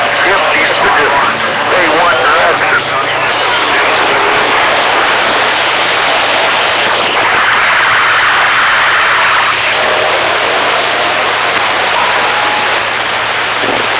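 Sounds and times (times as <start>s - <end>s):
radio static hiss: 0.0s - 13.9s.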